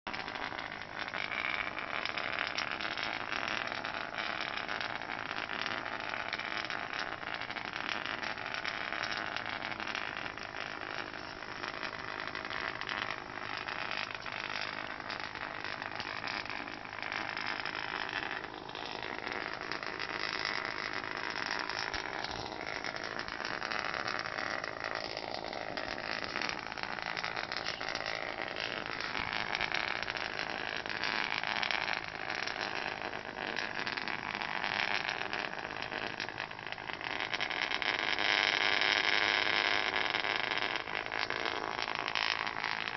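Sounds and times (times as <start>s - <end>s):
toy buzzing against wooden floor: 0.3s - 42.9s.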